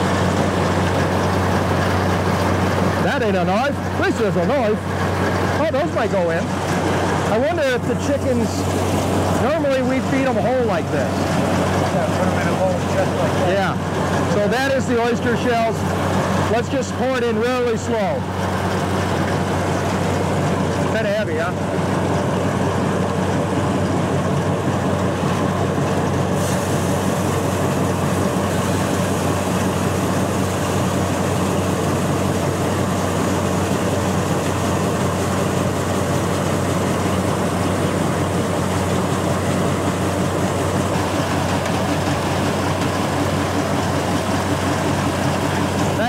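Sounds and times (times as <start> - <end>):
grinder-mixer mechanical drone: 0.0 - 46.0.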